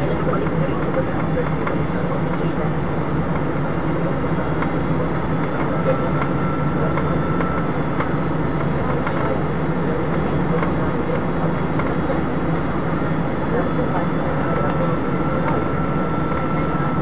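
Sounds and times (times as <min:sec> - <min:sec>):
airliner cabin engine hum: 0:00.0 - 0:17.0.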